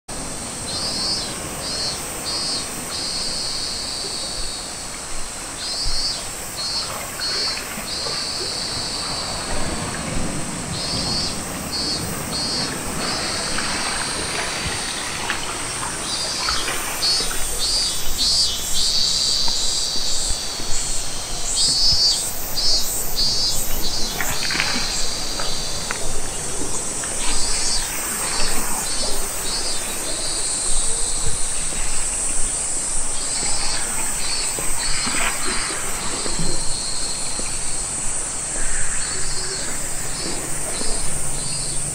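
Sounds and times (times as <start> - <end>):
insects chirping in pulses: 0.2 - 41.9
high-pitched insect trill: 0.5 - 41.9.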